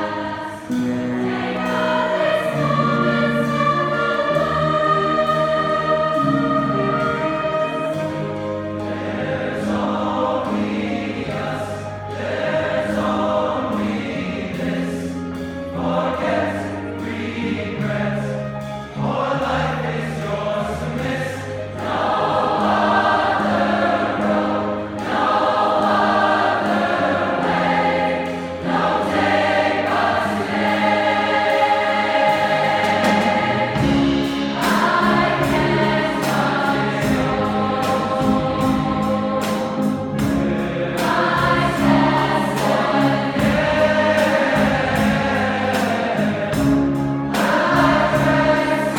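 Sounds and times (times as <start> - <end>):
choir singing in harmony: 0.0 - 48.9
jazz band: 0.0 - 48.9.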